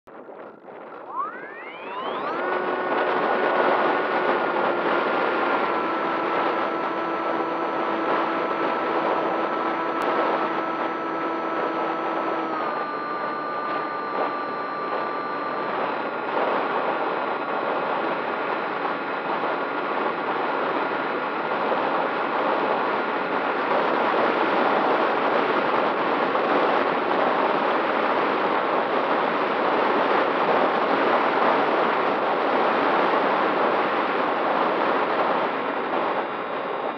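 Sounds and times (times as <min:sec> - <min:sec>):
wind rush on microphone: 0:00.1 - 0:36.9
model plane motor whine: 0:00.2 - 0:36.9.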